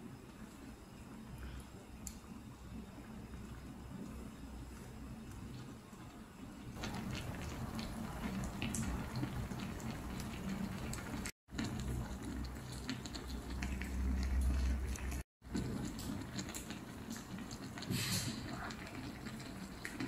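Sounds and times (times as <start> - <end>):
stew bubbling on a burner: 0.0 - 20.0.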